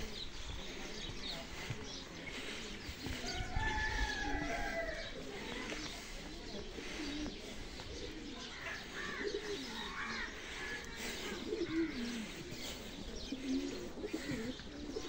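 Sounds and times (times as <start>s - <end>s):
birds chirping: 0.0s - 15.0s
birds cooing: 0.0s - 15.0s.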